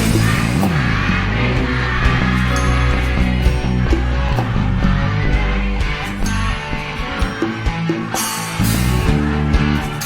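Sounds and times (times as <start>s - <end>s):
band playing instrumental music: 0.0s - 10.0s.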